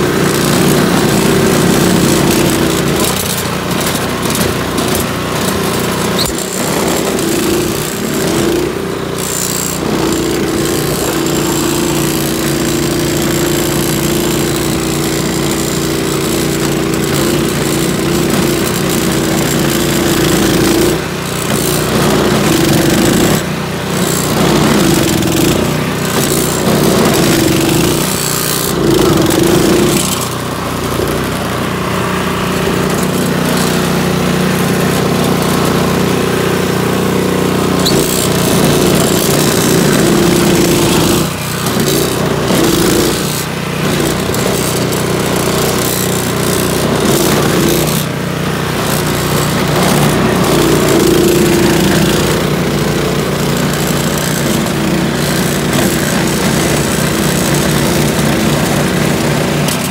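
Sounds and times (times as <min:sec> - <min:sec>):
snow blower engine running: 0:00.0 - 0:59.9.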